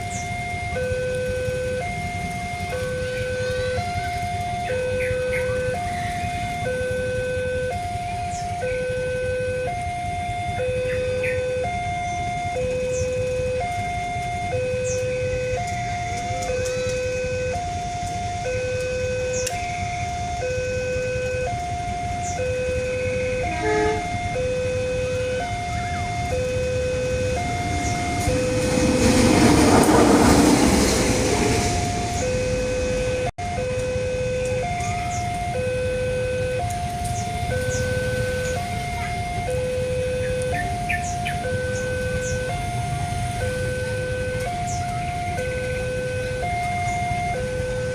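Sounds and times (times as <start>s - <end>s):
level crossing warning alarm: 0.0s - 47.9s
passing traffic rushing: 0.0s - 47.9s.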